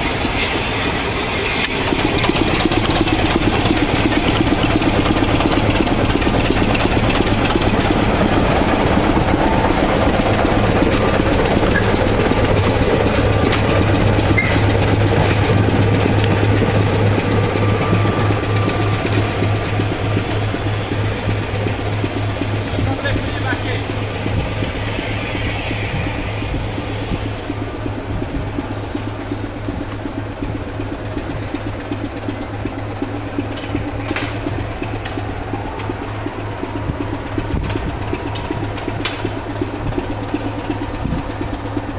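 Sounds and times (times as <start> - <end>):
engine idling: 0.0 - 41.9
locomotive low hum: 0.0 - 41.9.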